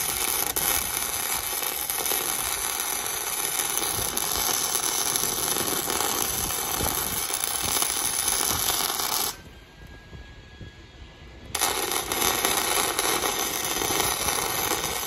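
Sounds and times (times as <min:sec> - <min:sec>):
welding arc crackling: 0:00.0 - 0:09.5, 0:11.5 - 0:15.0.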